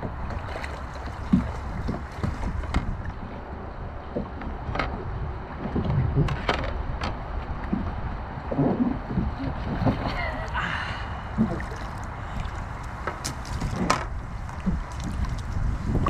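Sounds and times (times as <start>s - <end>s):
water sloshing and splashing: 0.0s - 16.0s
wind rumble on microphone: 0.0s - 16.0s.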